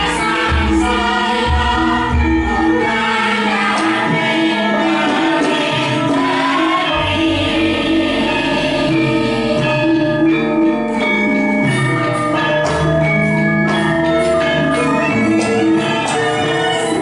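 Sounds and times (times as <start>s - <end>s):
gamelan ensemble playing: 0.0s - 17.0s.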